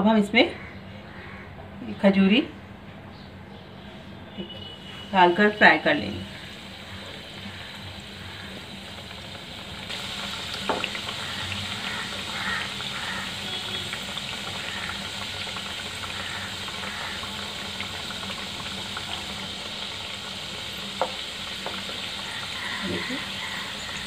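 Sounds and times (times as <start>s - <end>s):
dough deep-frying in oil: 4.4s - 24.0s.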